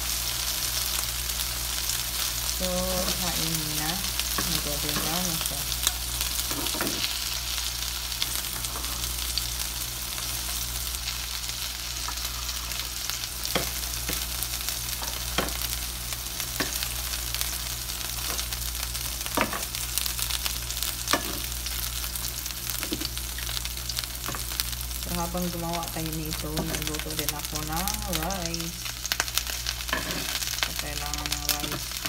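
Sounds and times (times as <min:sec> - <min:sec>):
chicken sizzling in frying pan: 0:00.0 - 0:32.0.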